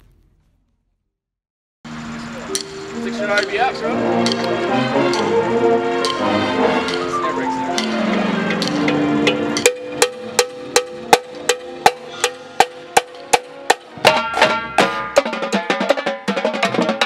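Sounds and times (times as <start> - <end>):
snare drums playing: 2.5 - 17.0.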